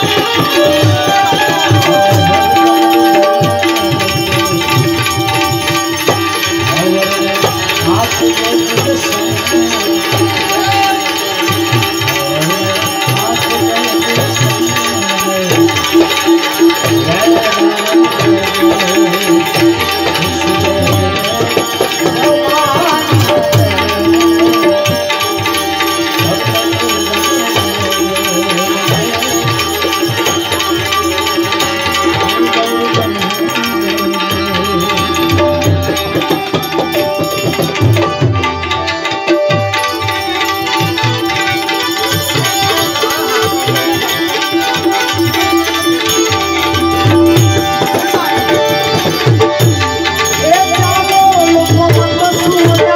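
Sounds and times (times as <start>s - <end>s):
tabla drumming: 0.0s - 52.9s.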